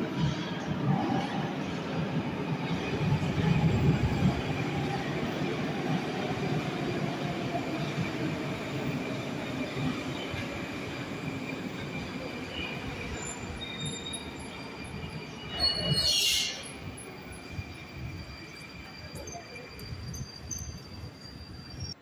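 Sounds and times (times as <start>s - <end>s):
metro train wheels rumbling on rails: 0.0s - 22.0s.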